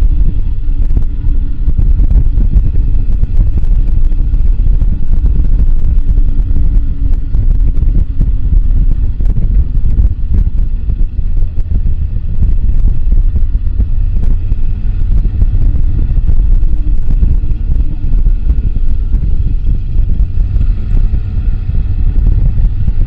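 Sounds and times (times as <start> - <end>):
low wind rumble on microphone: 0.0 - 23.0
motorcycle engine running: 0.0 - 23.0.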